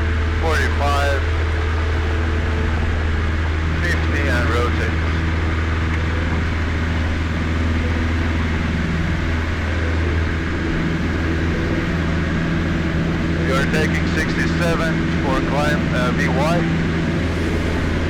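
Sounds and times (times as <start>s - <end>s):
small plane engine at full power: 0.0s - 18.0s.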